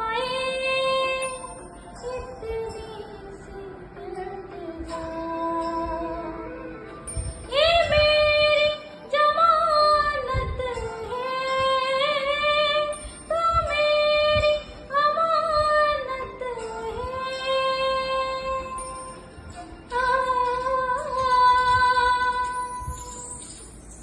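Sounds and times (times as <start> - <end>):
woman singing: 0.0 - 23.4.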